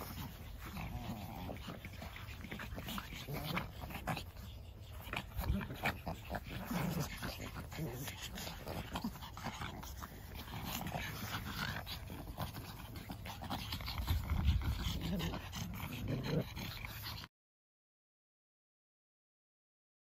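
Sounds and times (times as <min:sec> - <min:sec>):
dogs panting: 0:00.0 - 0:17.3.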